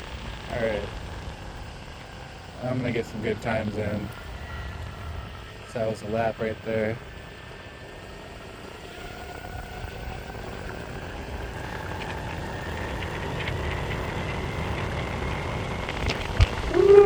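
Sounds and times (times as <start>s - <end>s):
electric motor whine: 0.0s - 17.0s
wheels rumbling on pavement: 0.0s - 17.0s.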